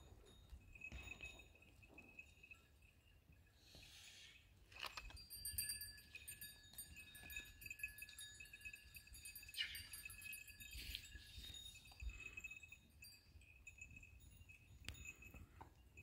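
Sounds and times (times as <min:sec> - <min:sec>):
animal bells tinkling: 0:00.0 - 0:16.0.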